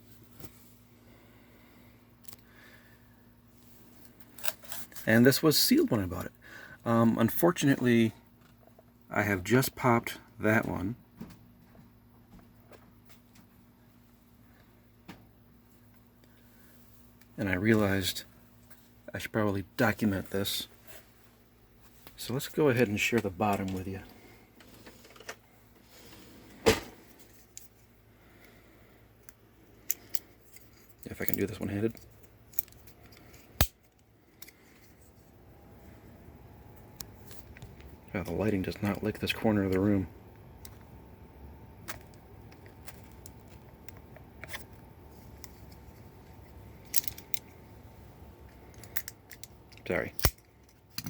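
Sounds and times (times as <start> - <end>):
low computer whirr: 0.0 - 51.0
low steady hum: 0.0 - 51.0.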